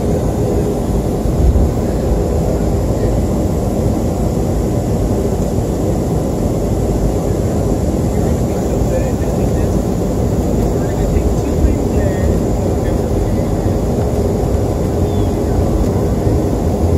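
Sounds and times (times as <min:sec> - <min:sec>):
jet engines rumbling: 0:00.0 - 0:16.9.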